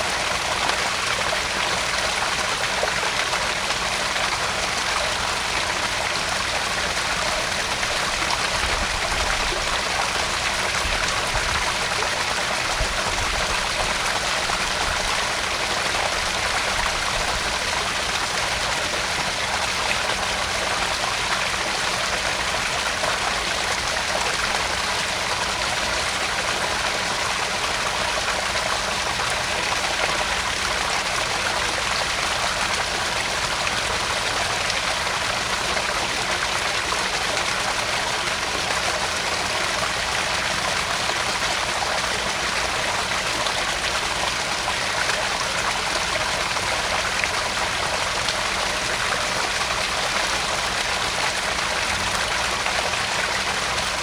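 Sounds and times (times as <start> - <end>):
water splashing and trickling: 0.0 - 54.0.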